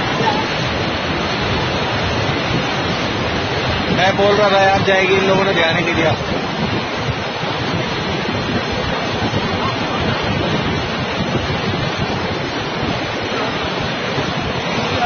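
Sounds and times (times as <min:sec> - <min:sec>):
floodwaters rushing: 0:00.0 - 0:15.0.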